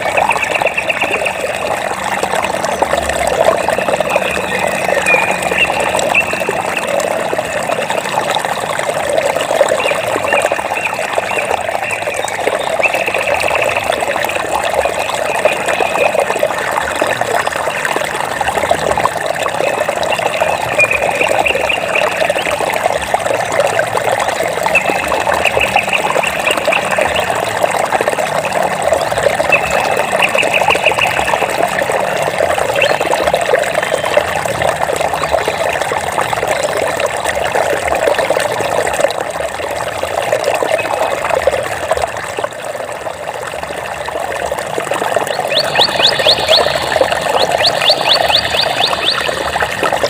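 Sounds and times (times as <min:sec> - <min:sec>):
water trickling and splashing: 0:00.0 - 0:50.0.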